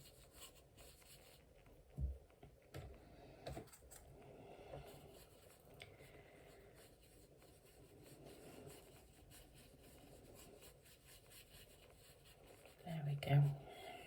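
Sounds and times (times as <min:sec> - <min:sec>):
brush strokes on paper: 0:00.0 - 0:01.6, 0:03.6 - 0:14.0.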